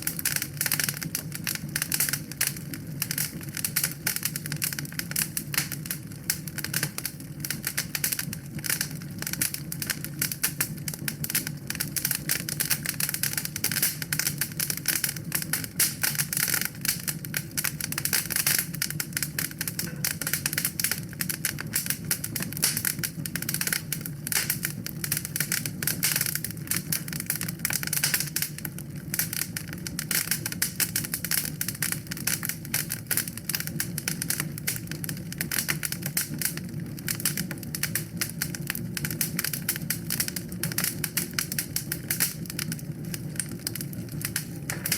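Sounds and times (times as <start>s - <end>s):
fire low rumble: 0.0s - 44.9s
wood fire crackling and popping: 0.0s - 44.9s.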